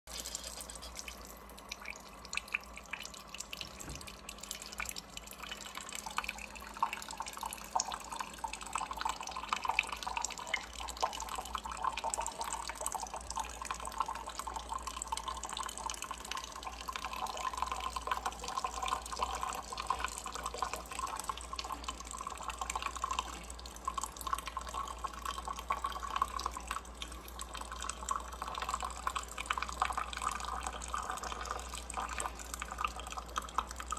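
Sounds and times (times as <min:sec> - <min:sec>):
liquid trickling and dripping: 0:00.1 - 0:33.9.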